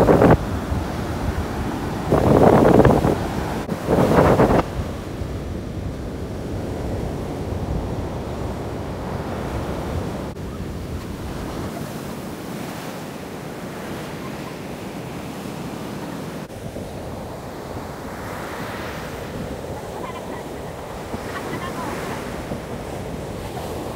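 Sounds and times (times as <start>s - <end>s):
wind rumbling on microphone: 0.0s - 12.8s, 15.1s - 23.9s
surf breaking on beach: 0.0s - 23.9s.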